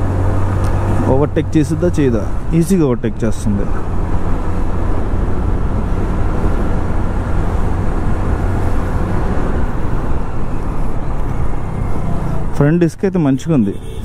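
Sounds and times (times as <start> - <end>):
road rumble: 0.0 - 14.0.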